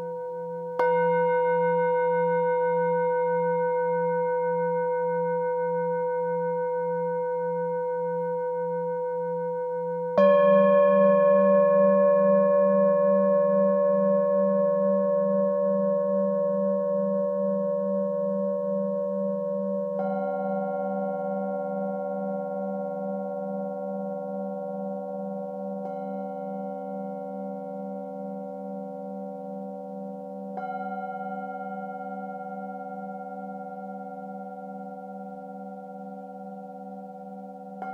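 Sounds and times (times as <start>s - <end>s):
singing bowls ringing: 0.0s - 37.9s.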